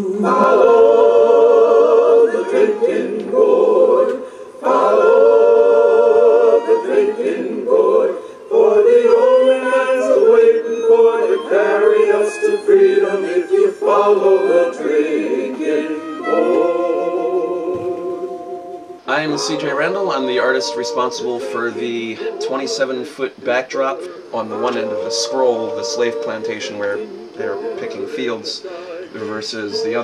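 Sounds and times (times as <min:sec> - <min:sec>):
voices singing a cappella: 0:00.0 - 0:30.0.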